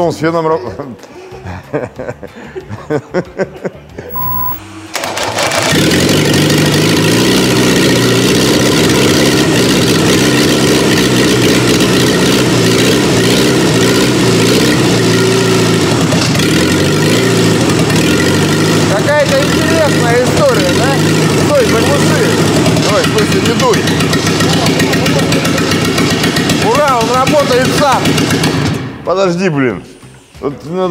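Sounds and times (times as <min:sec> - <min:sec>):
diesel engine running loudly: 0:04.1 - 0:29.0.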